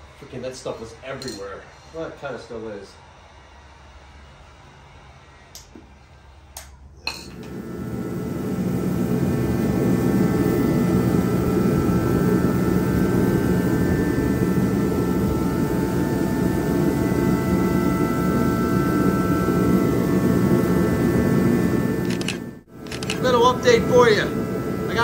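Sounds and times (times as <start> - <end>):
faint whine: 0.0 - 25.0
shop heater fan and burner rushing: 0.0 - 25.0.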